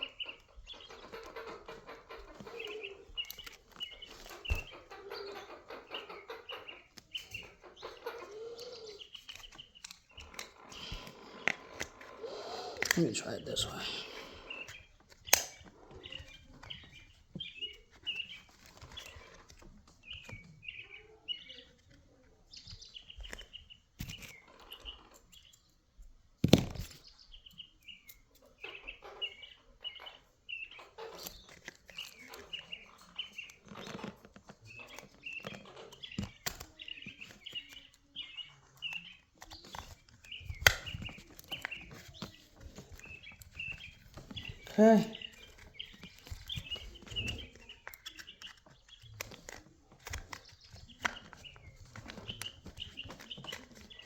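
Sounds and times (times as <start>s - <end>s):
clicks and knocks of hand work: 0.0s - 12.2s, 14.2s - 20.7s, 21.7s - 29.3s, 30.7s - 54.0s
small birds chirping: 0.0s - 54.0s.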